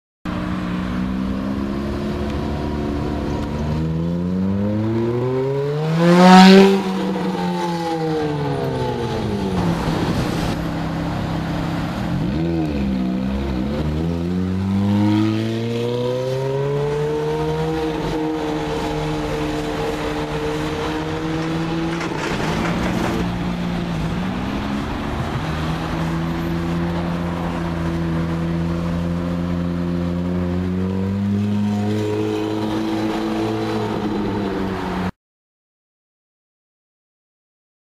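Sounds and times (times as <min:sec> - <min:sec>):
car engine revving and driving by: 0:00.3 - 0:35.1.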